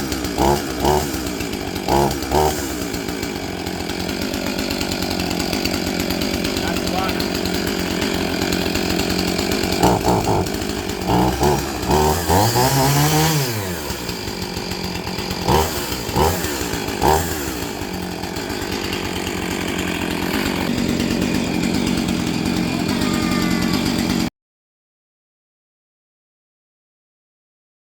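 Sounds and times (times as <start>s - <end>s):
chainsaw revving: 0.0s - 24.3s.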